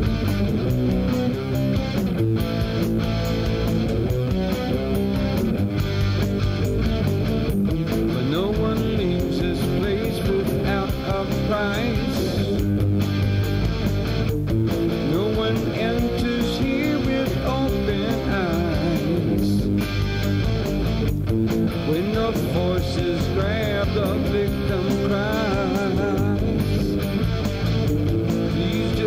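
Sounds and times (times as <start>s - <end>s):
guitar-led rock music: 0.0s - 29.0s.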